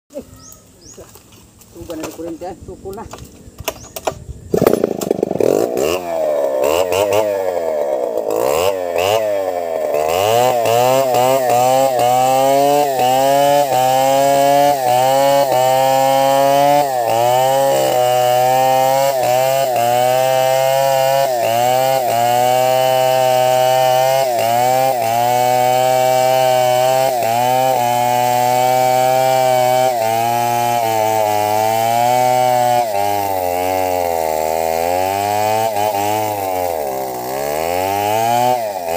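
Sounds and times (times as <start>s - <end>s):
chainsaw cutting log: 1.1s - 38.9s.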